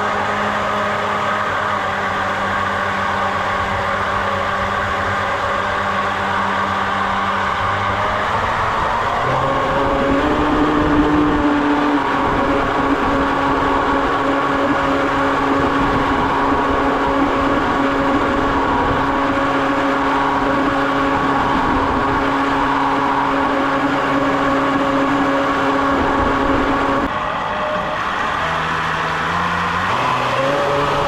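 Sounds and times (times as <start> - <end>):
boat motor whining: 0.0 - 31.0.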